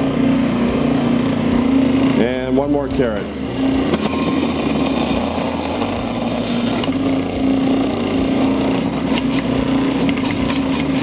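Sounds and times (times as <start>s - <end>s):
food processor motor humming: 0.0s - 11.0s.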